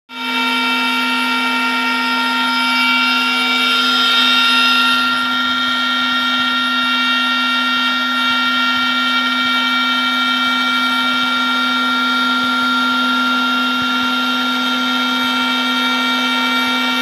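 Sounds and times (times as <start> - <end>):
bit cutting wood: 0.1 - 17.0
router spindle whine: 0.1 - 17.0.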